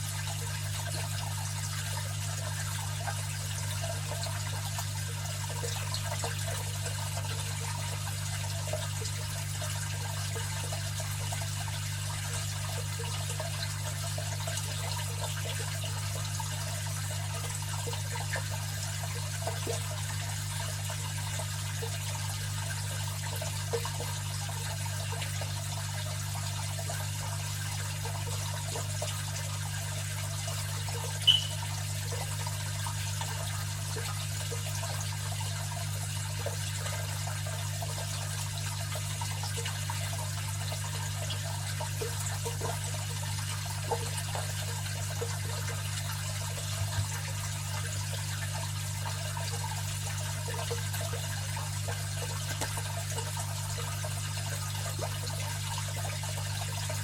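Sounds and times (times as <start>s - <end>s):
pump motor hum: 0.0s - 57.0s
water trickling and bubbling: 0.0s - 57.0s.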